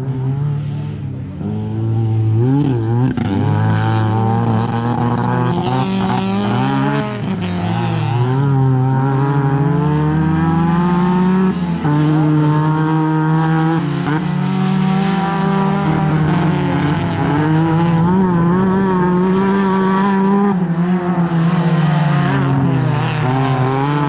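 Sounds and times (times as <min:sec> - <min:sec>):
racing car engines revving: 0:00.0 - 0:24.0.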